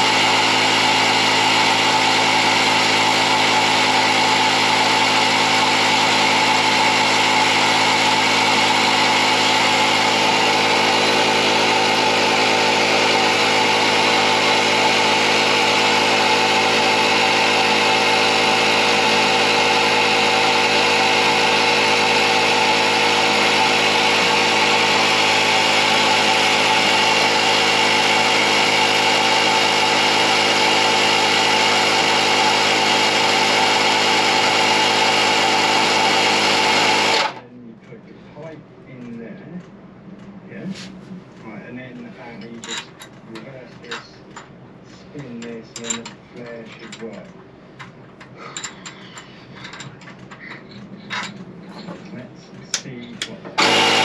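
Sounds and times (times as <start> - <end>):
air compressor running: 0.0 - 37.4, 40.5 - 54.0.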